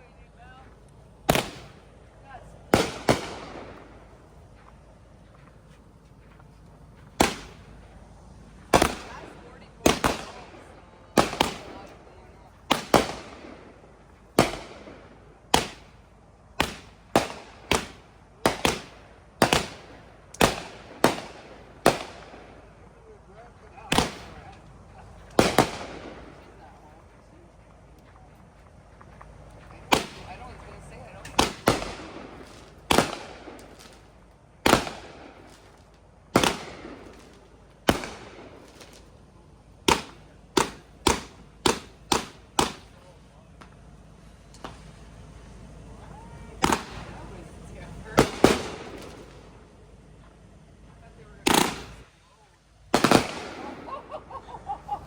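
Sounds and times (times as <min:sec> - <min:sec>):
fireworks bangs echoing: 0:00.0 - 0:27.6, 0:29.1 - 0:45.6, 0:46.4 - 0:50.2, 0:51.1 - 0:52.1, 0:52.9 - 0:55.0.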